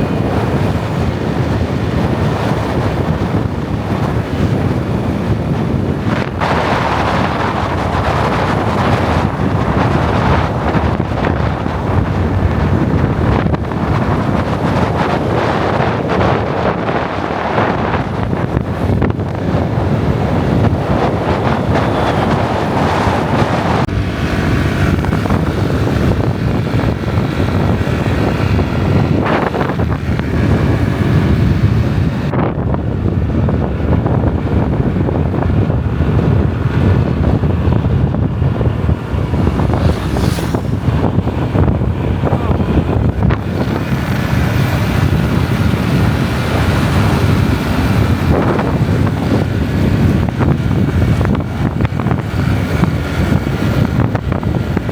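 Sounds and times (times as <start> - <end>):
motorbike engine running: 0.0 - 54.9
wind buffeting microphone: 0.0 - 54.9.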